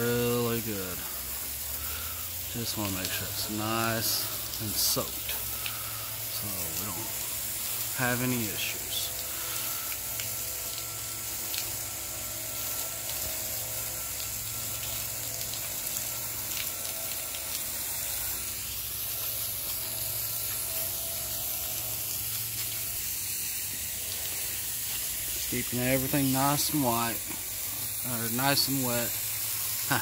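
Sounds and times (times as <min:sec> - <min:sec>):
garden hose spraying water: 0:00.0 - 0:30.0.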